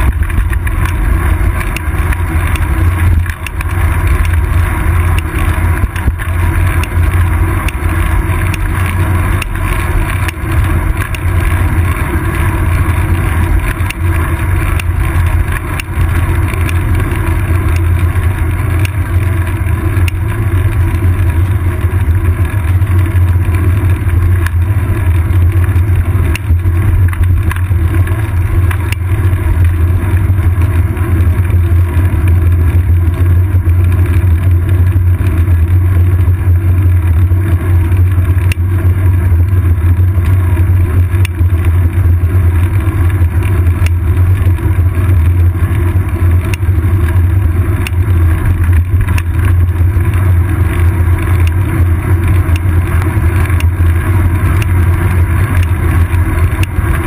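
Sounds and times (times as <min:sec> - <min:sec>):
bicycle road vibration: 0:00.0 - 0:57.0
wind rumble: 0:00.0 - 0:57.0.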